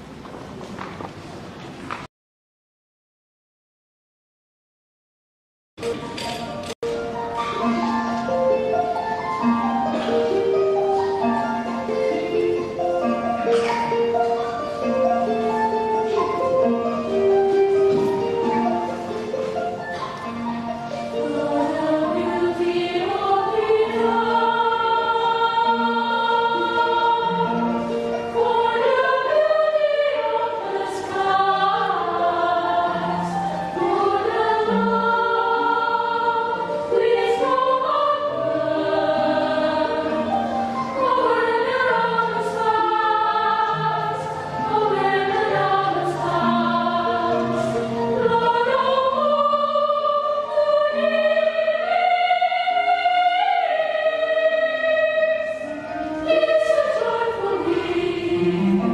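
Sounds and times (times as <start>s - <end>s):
choir singing: 7.4s - 58.9s.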